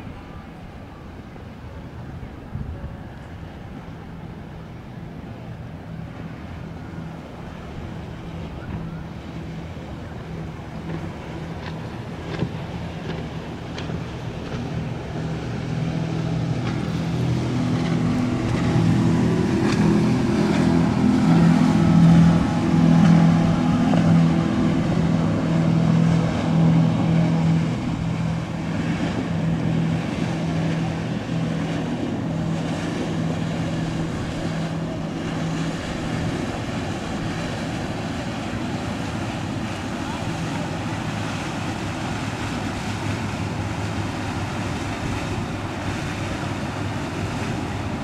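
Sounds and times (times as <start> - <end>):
boat engines humming: 0.0 - 48.0.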